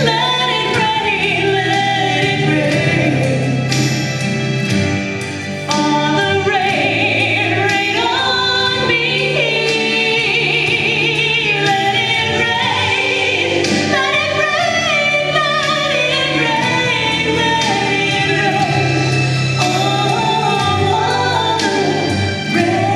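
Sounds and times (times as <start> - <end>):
woman singing: 0.0 - 4.6, 5.6 - 22.9
instrumental accompaniment: 0.0 - 22.9.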